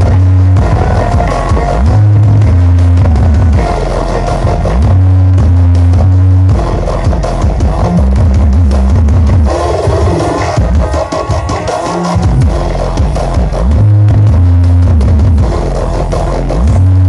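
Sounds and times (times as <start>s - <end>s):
heavy bass notes: 0.0s - 17.0s
loud electronic dance music: 0.0s - 17.0s.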